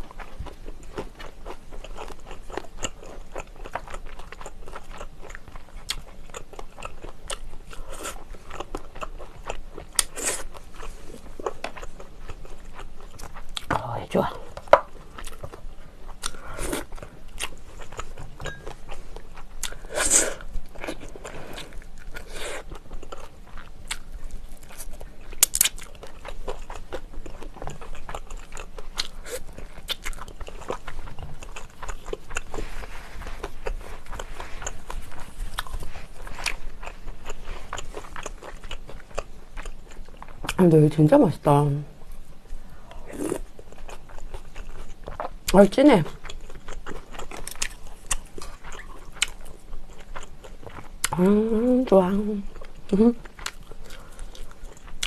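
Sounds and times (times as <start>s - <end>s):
person chewing and crunching: 0.0s - 40.6s, 41.9s - 51.7s, 52.4s - 55.0s.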